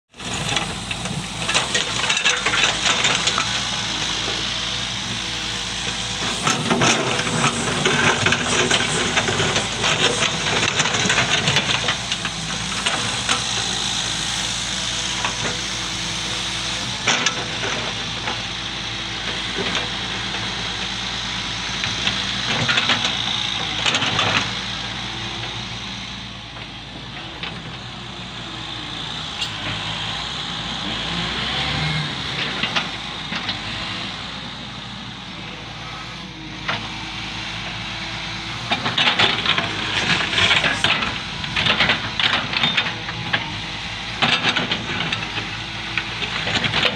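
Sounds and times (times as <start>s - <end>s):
excavator diesel engine working: 0.1s - 46.9s.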